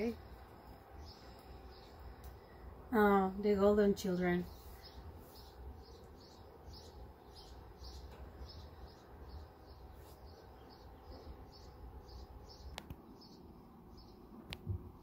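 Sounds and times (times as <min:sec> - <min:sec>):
bird chirping faintly: 0:00.0 - 0:14.6
low steady hum: 0:00.0 - 0:15.0.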